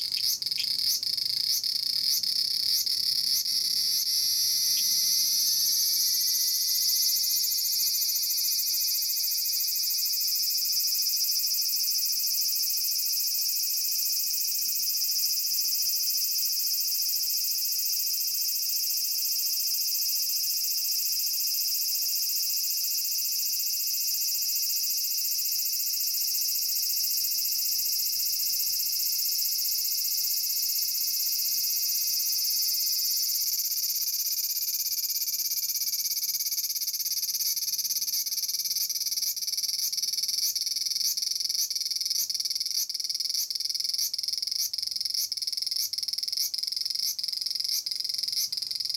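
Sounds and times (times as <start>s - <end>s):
cicada singing: 0.0s - 17.2s, 19.2s - 48.9s.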